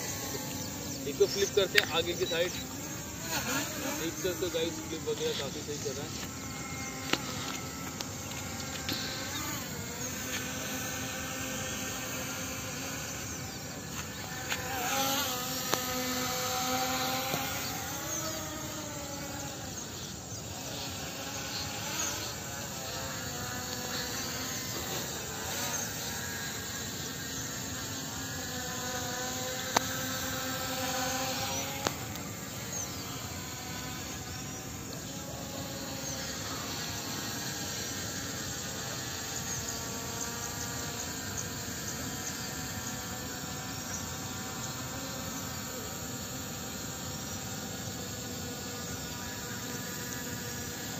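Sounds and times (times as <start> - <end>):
drone propellers buzzing: 0.0 - 50.9.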